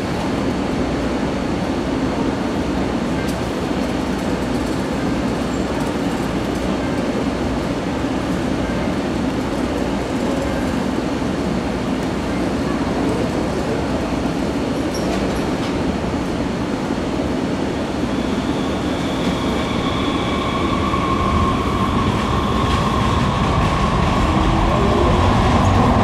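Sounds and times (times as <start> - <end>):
light rail train rumbling: 0.0 - 26.0.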